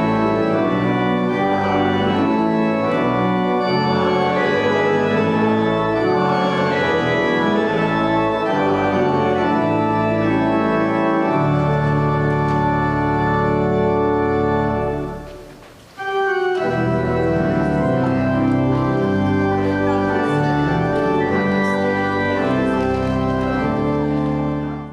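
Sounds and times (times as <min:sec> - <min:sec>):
church organ chords: 0:00.0 - 0:24.9.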